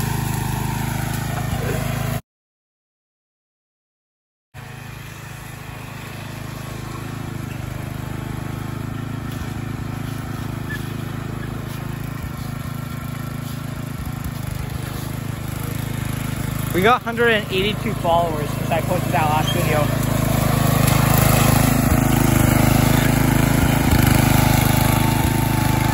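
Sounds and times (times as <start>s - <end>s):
riding mower engine running: 0.0s - 2.2s, 4.6s - 25.9s.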